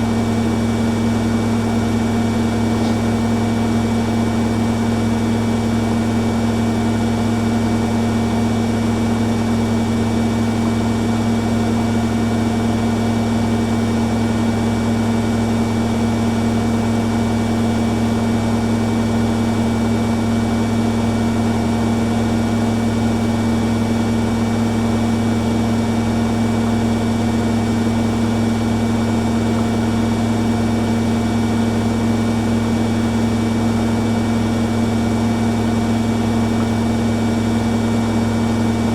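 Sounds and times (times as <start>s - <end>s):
washing machines spinning: 0.0s - 38.9s.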